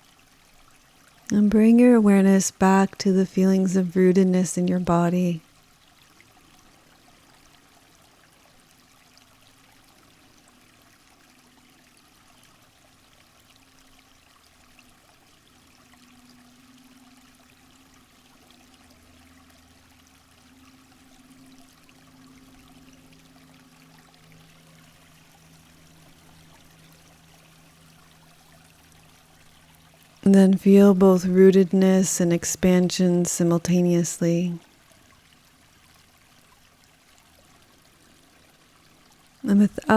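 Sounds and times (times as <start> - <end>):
running water: 0.0 - 39.9
soft low hum of held tones: 0.0 - 39.9.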